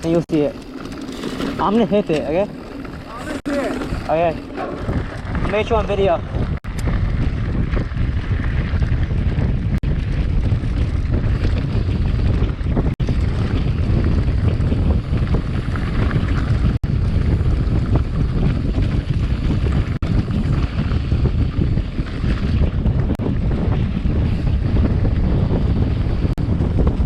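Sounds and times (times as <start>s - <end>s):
bike trail noise: 0.0s - 27.0s
wind buffeting microphone: 0.0s - 27.0s.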